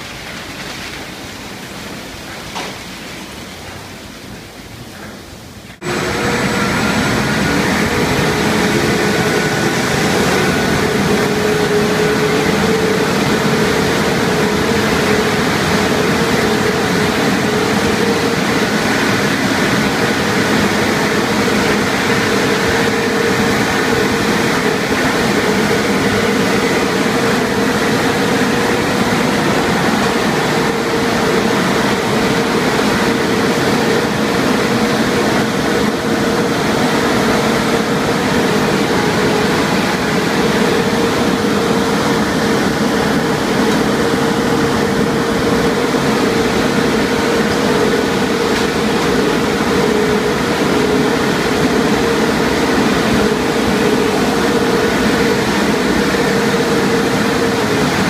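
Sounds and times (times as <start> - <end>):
dryer blowers rushing air: 0.0 - 58.0
car wash hiss: 5.6 - 58.0.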